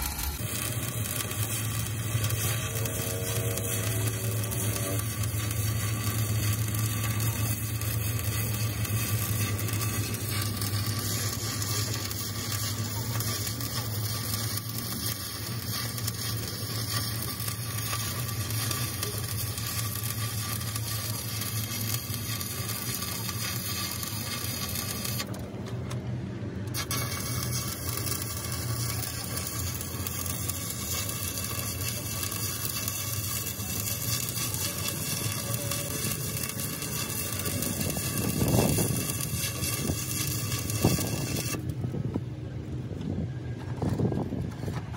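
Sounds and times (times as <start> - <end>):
welding arc crackling: 0.0 - 26.0, 26.6 - 42.1
low hum: 0.0 - 44.9.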